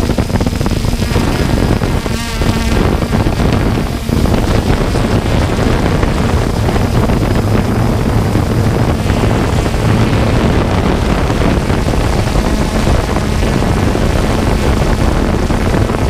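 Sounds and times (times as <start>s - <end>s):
drone propellers whirring: 0.0s - 16.0s
wind rushing over microphone: 0.0s - 16.0s.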